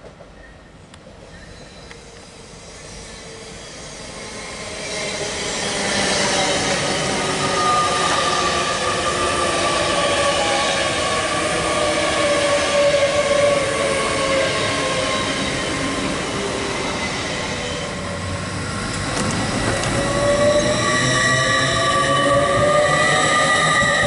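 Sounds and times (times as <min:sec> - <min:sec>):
train running gear whine: 0:00.0 - 0:24.0
train wheels rumbling on rail: 0:00.0 - 0:24.0.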